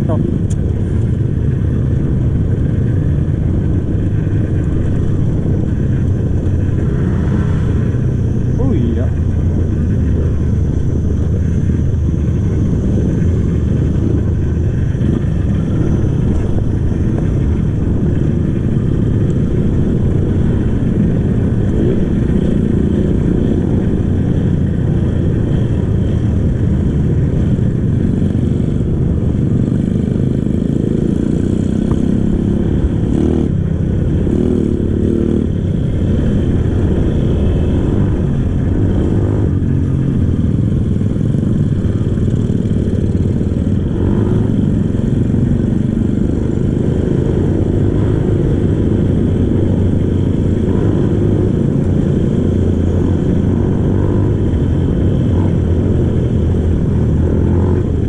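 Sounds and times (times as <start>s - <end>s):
motorcycle engine running under load: 0.0s - 58.0s.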